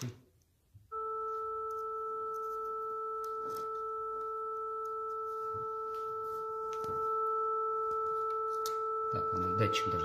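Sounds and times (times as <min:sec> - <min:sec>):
steady pure tone from phone: 0:00.9 - 0:10.0.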